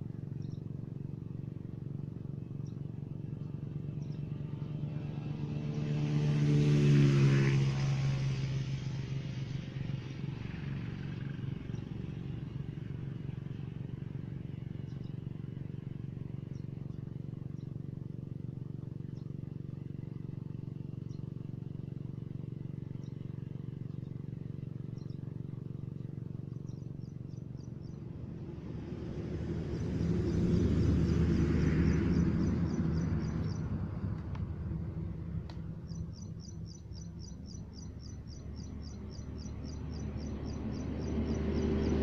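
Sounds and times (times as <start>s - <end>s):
steady engine drone: 0.0s - 42.0s
vehicle passing by: 0.0s - 42.0s.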